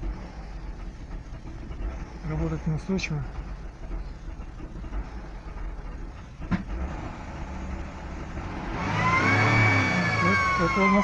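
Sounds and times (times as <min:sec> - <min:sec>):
car engine running roughly: 0:00.0 - 0:11.0.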